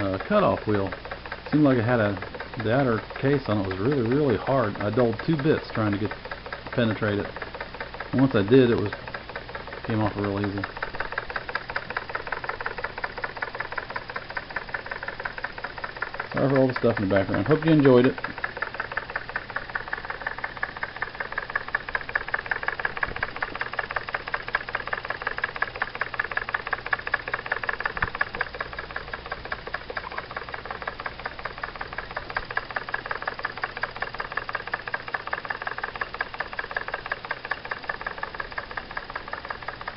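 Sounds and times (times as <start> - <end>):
steam engine running: 0.0 - 39.9.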